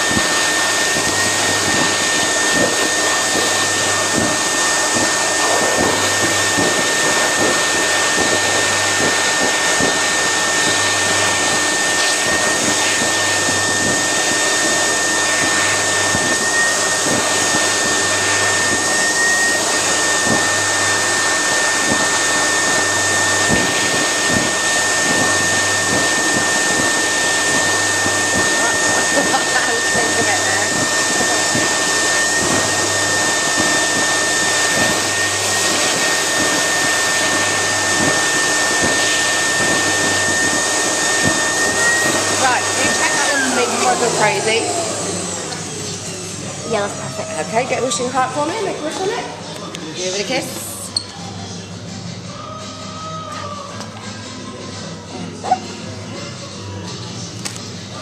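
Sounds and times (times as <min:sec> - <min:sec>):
stuffing machine blower: 0:00.0 - 0:49.1.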